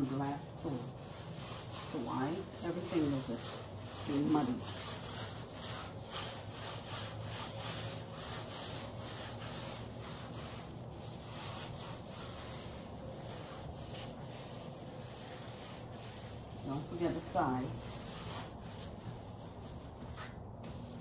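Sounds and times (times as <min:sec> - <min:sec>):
paint rubbed on canvas swishing: 0:00.0 - 0:21.0.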